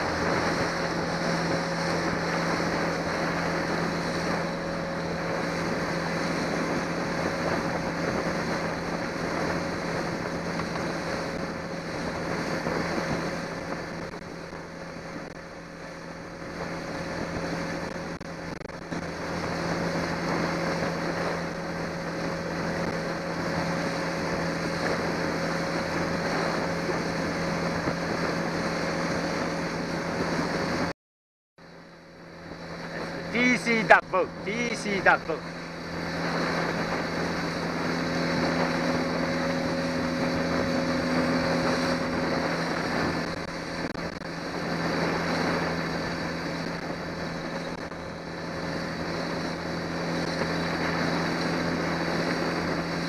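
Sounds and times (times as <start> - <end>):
water rushing: 0.0 - 30.9, 31.6 - 53.0
outboard motor humming: 0.0 - 31.0, 31.6 - 53.0
wind: 0.0 - 31.0, 31.6 - 53.0.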